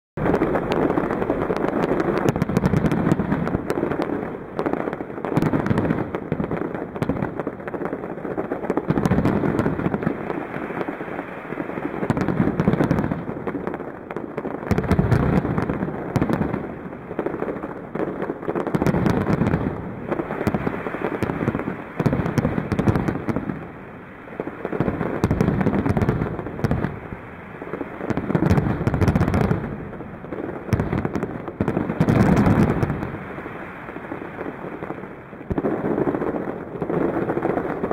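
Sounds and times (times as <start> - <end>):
fireworks booming and crackling: 0.2 - 37.9.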